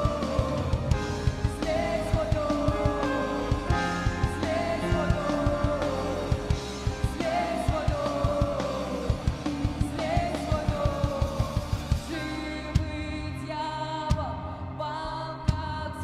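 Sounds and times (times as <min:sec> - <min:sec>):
rock music with drums and guitars: 0:00.0 - 0:14.7.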